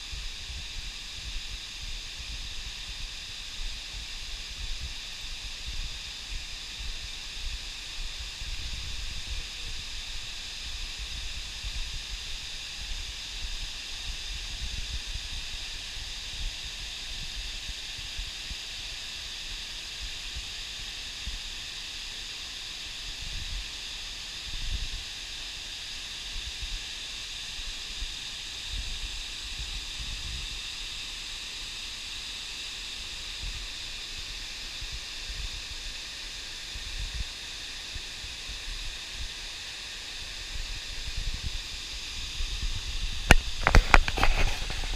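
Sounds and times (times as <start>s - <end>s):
waterfall hissing: 0.0s - 44.9s.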